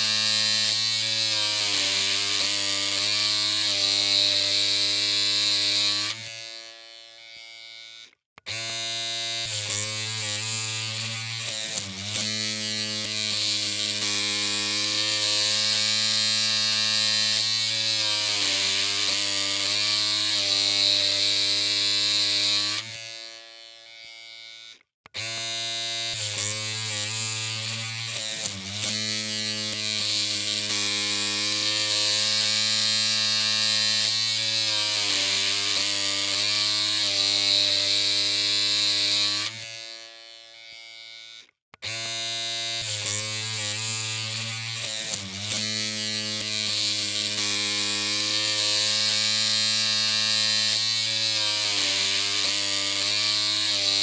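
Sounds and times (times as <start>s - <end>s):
electric hair clippers buzzing: 0.0s - 54.0s.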